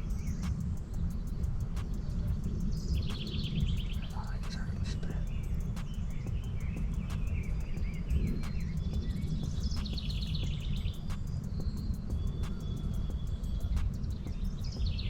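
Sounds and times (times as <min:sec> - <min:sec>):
low wind rumble: 0:00.0 - 0:15.0
songbirds singing: 0:00.0 - 0:15.0.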